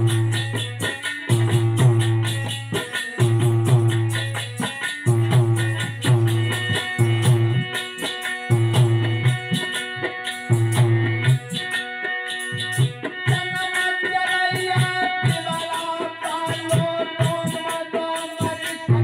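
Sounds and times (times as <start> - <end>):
hand drum rhythm: 0.0 - 19.0
jingling rattle percussion: 0.0 - 19.0.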